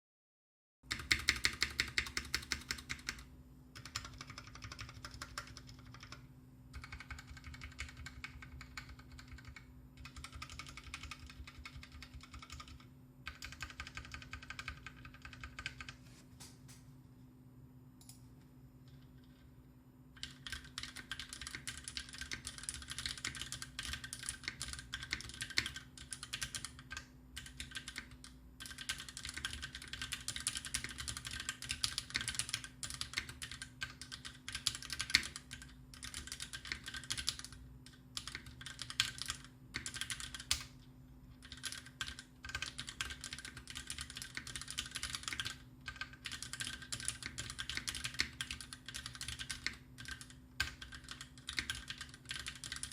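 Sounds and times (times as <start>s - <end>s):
mechanical keyboard typing: 0.9s - 6.2s, 6.8s - 16.0s, 20.2s - 40.7s, 41.3s - 52.9s.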